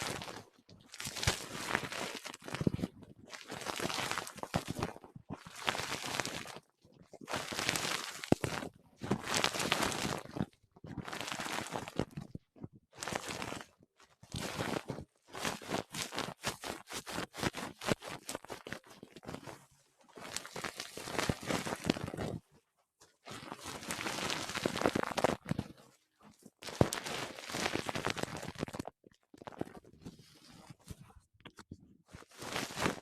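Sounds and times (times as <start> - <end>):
crinkly rustling: 0.0 - 12.3, 13.0 - 22.5, 23.2 - 33.0.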